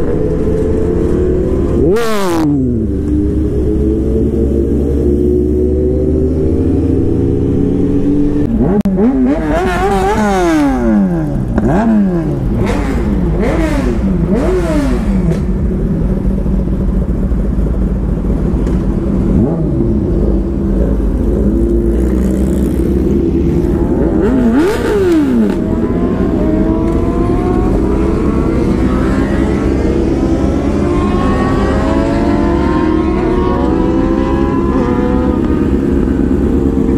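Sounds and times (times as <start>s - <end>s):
motorcycle engines accelerating: 0.0s - 36.9s.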